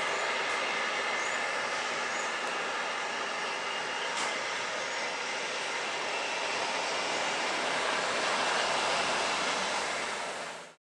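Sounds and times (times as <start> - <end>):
helicopter engine and rotors running: 0.0 - 10.7.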